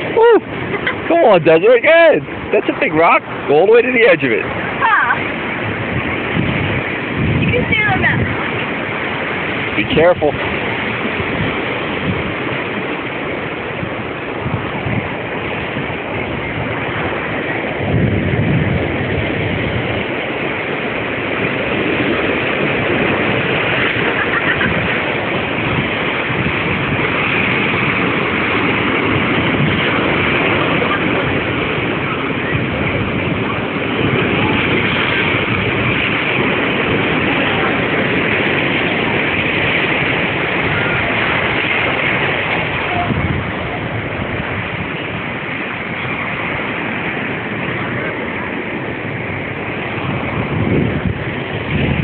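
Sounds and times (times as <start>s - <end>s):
surf breaking over rocks: 0.0s - 52.0s.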